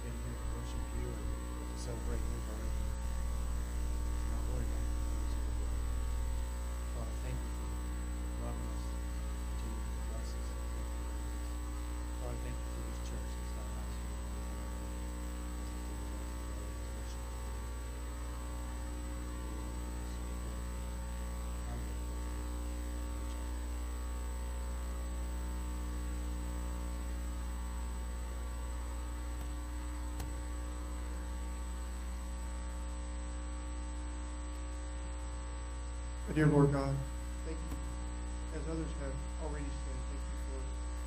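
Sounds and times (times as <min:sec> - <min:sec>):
electrical mains hum with hiss: 0:00.0 - 0:41.0.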